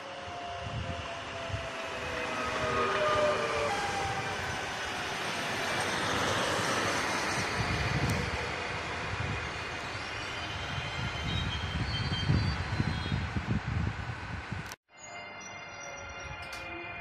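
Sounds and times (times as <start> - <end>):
train wheels rumbling on rail: 0.0 - 14.8
electric train whine: 0.0 - 17.0.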